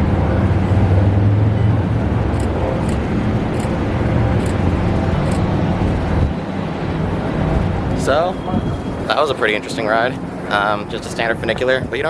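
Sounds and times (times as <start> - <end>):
funicular car humming: 0.0 - 12.0.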